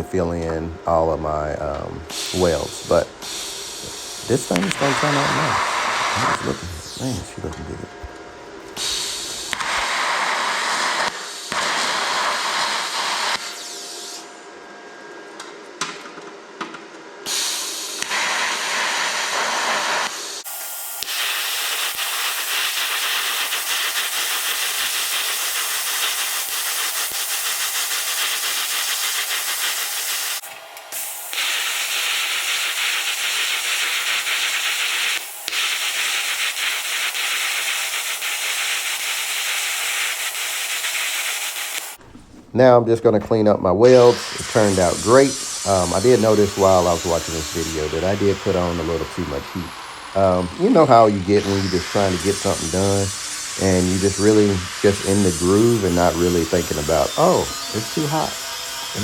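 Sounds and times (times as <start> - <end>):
welding arc hissing: 0.9 - 14.4, 17.2 - 42.5, 43.8 - 59.0.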